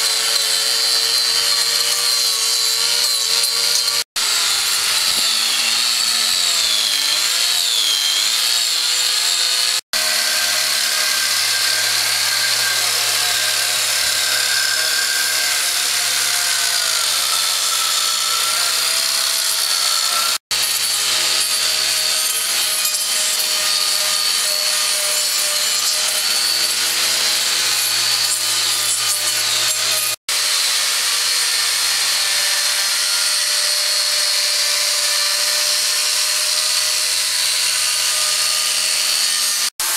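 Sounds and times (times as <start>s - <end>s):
cutter rasping wood: 0.0s - 39.9s
grinder motor whine: 0.0s - 39.9s.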